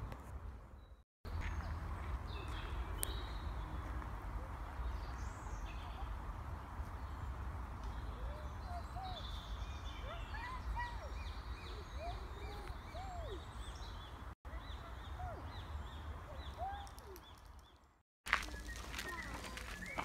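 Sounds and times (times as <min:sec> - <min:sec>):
small birds chirping: 0:00.6 - 0:20.0.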